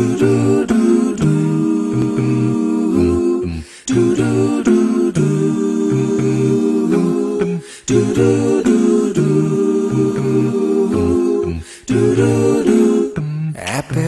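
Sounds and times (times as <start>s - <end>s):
a cappella group singing: 0.0s - 14.0s.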